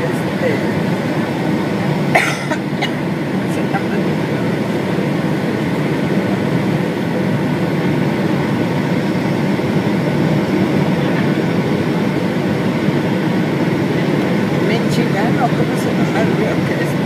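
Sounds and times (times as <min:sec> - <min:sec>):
airflow over the fuselage: 0:00.0 - 0:17.0
jet engine rumble: 0:00.0 - 0:17.0.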